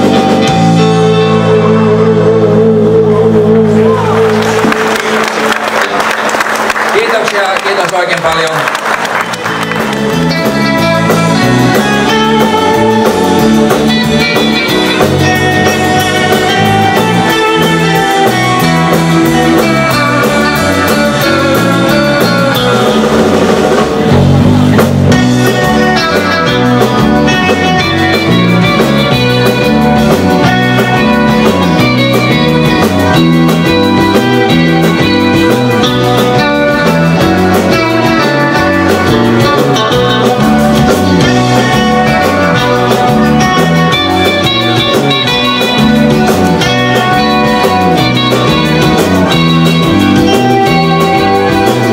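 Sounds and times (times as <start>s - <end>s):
bass: 0.0s - 51.9s
drum kit: 0.0s - 51.9s
electric lead guitar: 0.0s - 51.9s.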